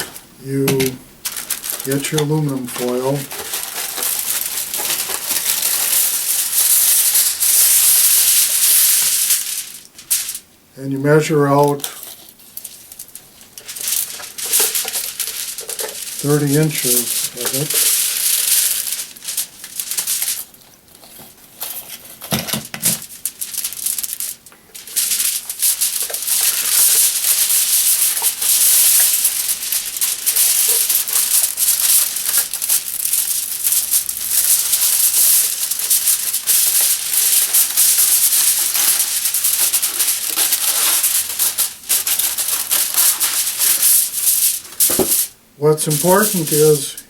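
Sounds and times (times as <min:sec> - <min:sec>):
aluminum foil crinkling: 0:00.0 - 0:10.5, 0:11.1 - 0:47.0.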